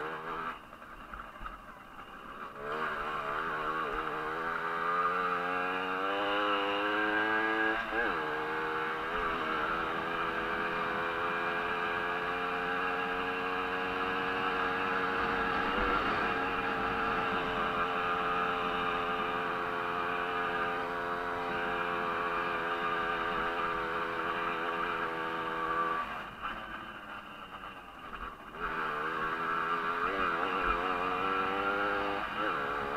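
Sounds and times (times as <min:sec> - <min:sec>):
moped engine buzzing at high revs: 0:00.0 - 0:01.3, 0:02.2 - 0:32.9.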